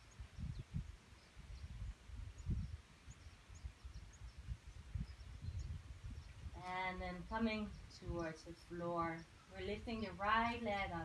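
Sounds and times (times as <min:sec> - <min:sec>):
distant bird chirps: 0:00.0 - 0:11.0.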